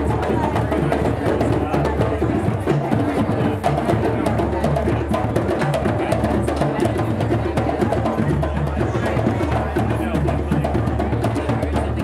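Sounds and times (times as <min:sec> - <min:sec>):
hand drums playing rhythm: 0:00.0 - 0:12.0.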